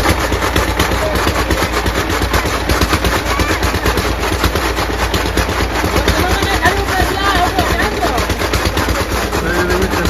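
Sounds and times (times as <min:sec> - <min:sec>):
engine running with knocking beat: 0:00.0 - 0:10.0.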